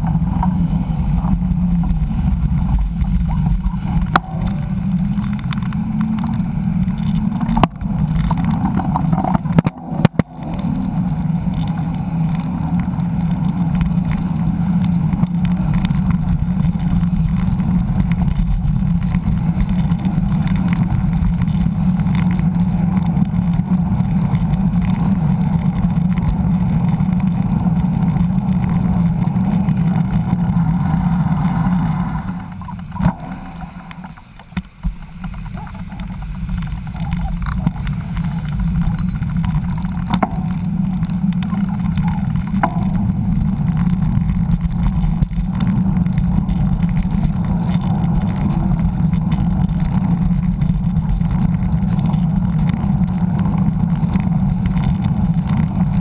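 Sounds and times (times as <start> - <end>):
wind and road noise rumble: 0.0 - 56.0.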